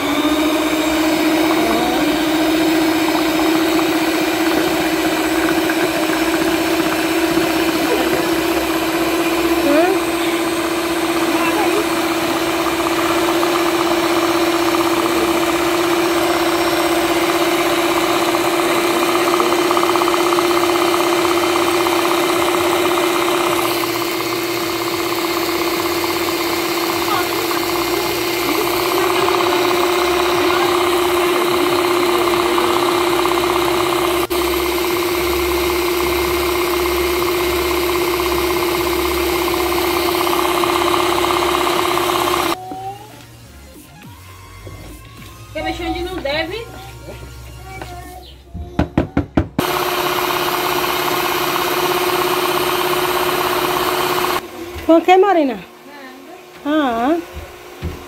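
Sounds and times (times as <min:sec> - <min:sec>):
electric mixer whipping batter: 0:00.0 - 0:43.2, 0:49.6 - 0:58.0.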